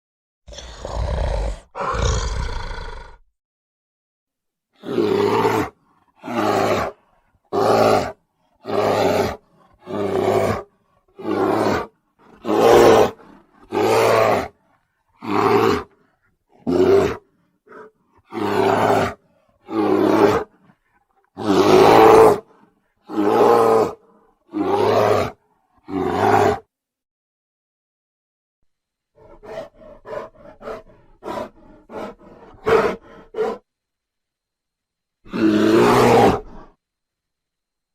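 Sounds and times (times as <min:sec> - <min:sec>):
bear roaring: 0:00.5 - 0:03.2, 0:04.8 - 0:26.7, 0:29.2 - 0:33.6, 0:35.2 - 0:36.8.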